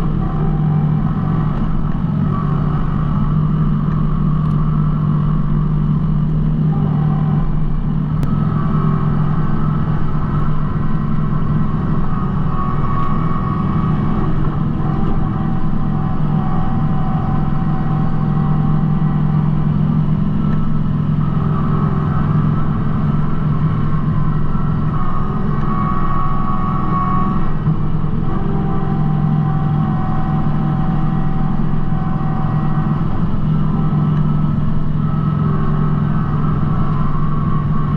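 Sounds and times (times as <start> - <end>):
faint steady whine: 0.0 - 37.9
tractor diesel engine running: 0.0 - 37.9.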